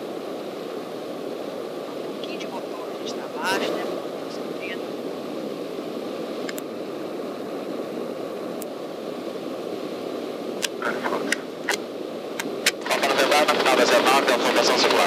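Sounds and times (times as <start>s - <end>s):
airplane cabin engine noise: 0.0s - 15.0s.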